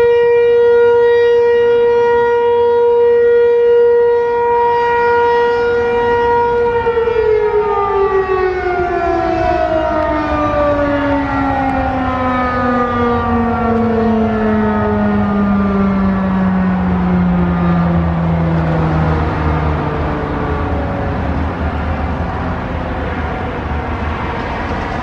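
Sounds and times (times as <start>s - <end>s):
warning siren winding down: 0.0s - 25.0s.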